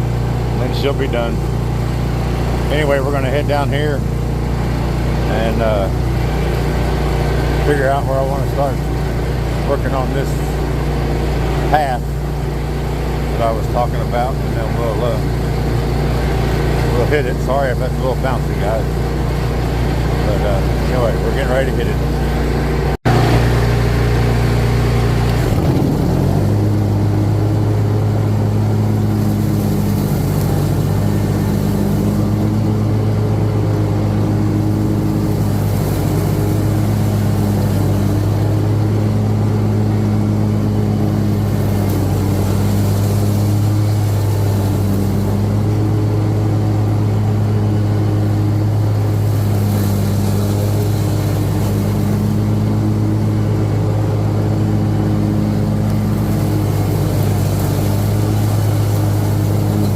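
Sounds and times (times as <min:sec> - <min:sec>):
riding lawnmower engine running: 0:00.0 - 0:59.9.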